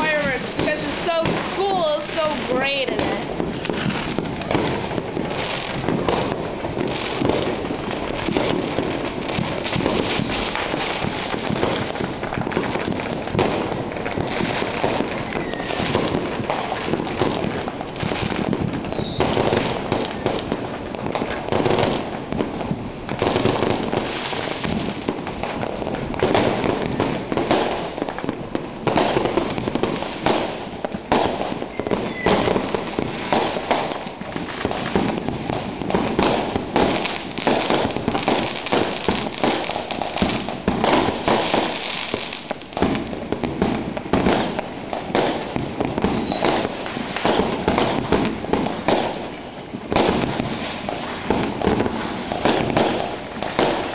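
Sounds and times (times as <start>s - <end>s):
firecrackers crackling and popping: 0.0s - 53.9s.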